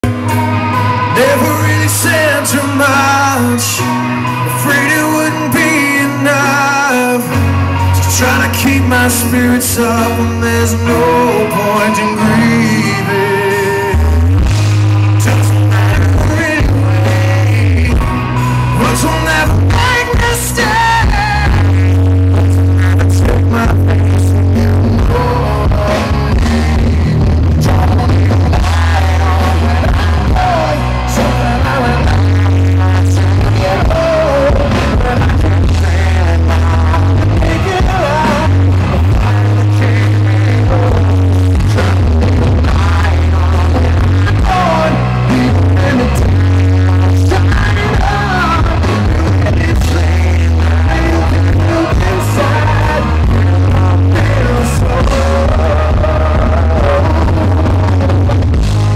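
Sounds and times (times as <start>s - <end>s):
live rock band with electric guitars: 0.0s - 58.9s
person singing: 0.0s - 58.9s.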